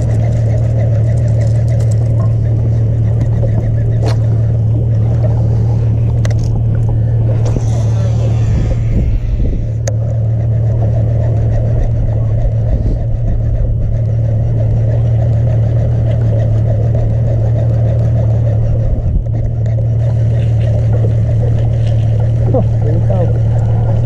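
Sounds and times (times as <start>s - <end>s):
boat engine humming: 0.0s - 24.0s
rushing wind: 0.0s - 24.0s
water noise: 0.0s - 24.0s.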